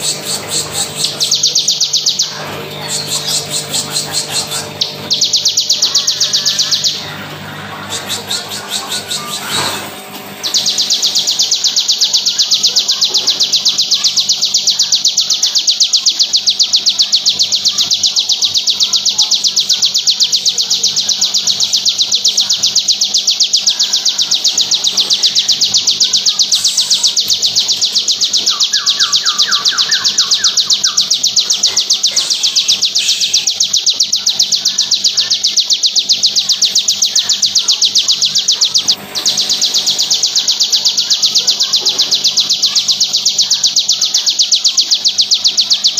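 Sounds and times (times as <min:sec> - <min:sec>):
bird singing rapid trill: 0:00.0 - 0:45.9.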